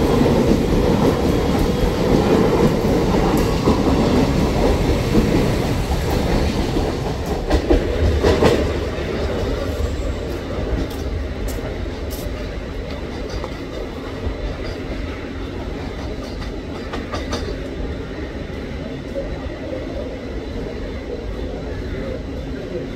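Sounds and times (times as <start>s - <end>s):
train rumbling on rails: 0.0s - 22.9s.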